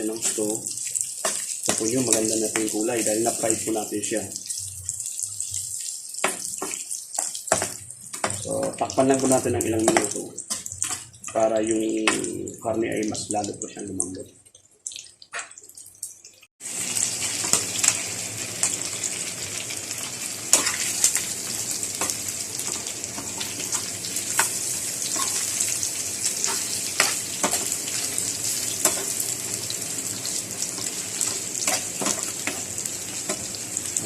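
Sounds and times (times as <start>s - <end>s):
pork sizzling in oil: 0.0s - 13.5s, 14.6s - 34.0s
oil popping and crackling: 0.0s - 34.0s.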